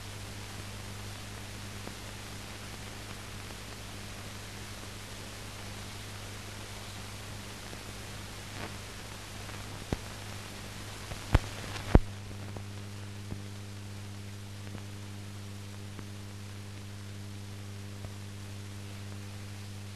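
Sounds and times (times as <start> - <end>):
film hiss: 0.0 - 19.9
low mains hum: 0.0 - 19.9.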